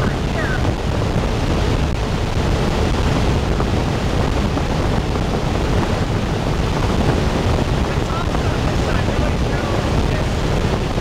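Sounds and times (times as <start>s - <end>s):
wind tunnel fan and airflow: 0.0s - 11.0s.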